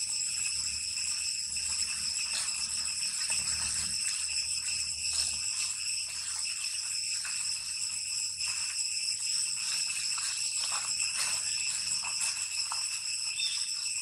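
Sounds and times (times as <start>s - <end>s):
cicadas shrilling: 0.0s - 14.0s.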